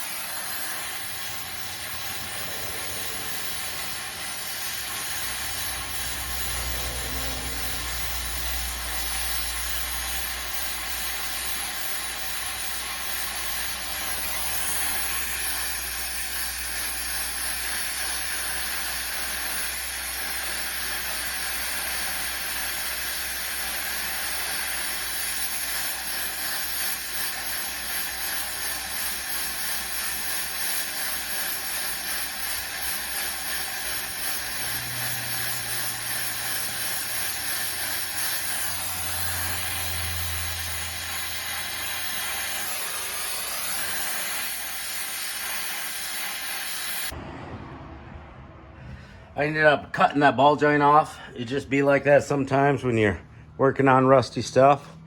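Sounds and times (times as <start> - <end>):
gas torch flame hissing: 0.0 - 47.2.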